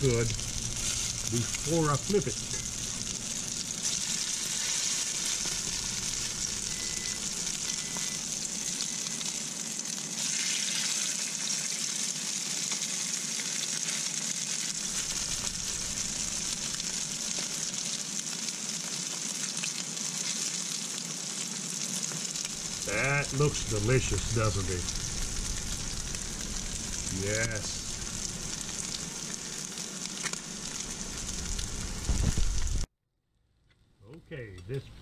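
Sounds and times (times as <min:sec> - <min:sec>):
patties sizzling in oil: 0:00.0 - 0:32.9.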